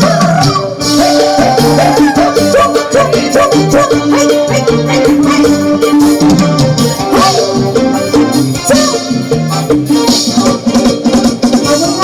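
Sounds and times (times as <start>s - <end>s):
background music with percussion beat: 0.0s - 12.0s.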